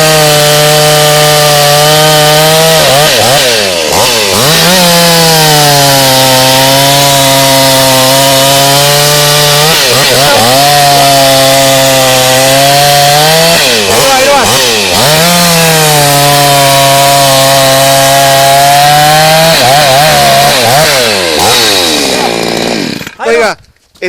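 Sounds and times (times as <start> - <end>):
chainsaw running at high revs: 0.0 - 23.2.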